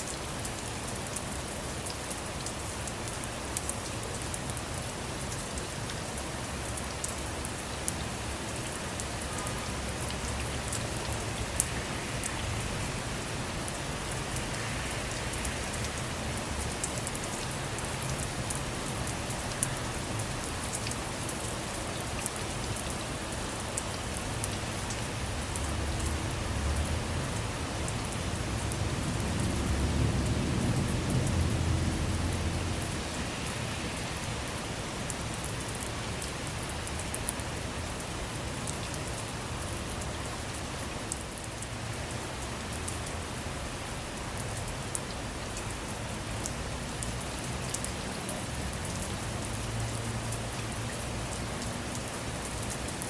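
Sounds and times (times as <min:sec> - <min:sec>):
rain on a car: 0:00.0 - 0:53.0.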